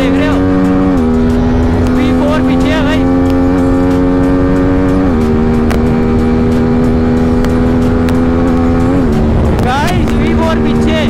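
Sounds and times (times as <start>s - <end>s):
heavy wind rush: 0.0s - 11.0s
motorcycle engine running hard: 0.0s - 11.0s.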